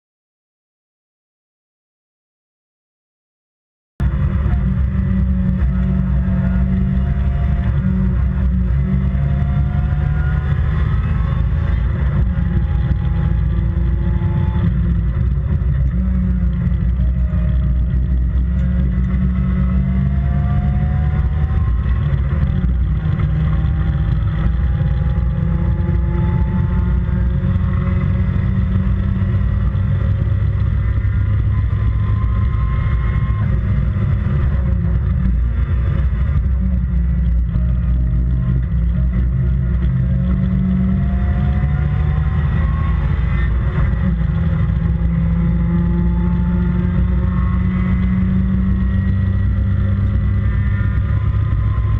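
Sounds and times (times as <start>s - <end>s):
heavy low rumble: 4.0s - 51.9s
race car engine accelerating: 4.0s - 51.9s.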